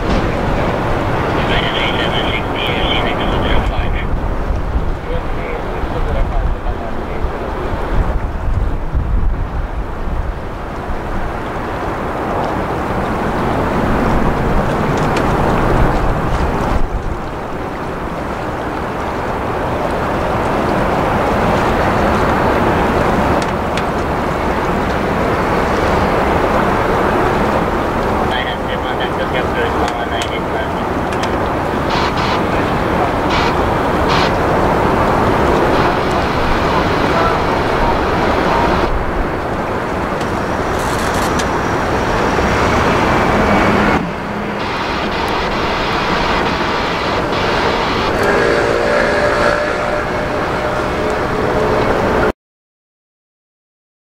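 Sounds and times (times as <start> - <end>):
jet engines rushing: 0.0 - 52.3.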